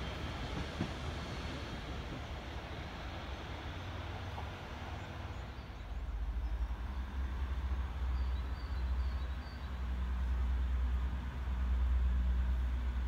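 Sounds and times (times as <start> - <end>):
distant diesel train rumble: 0.0 - 13.0.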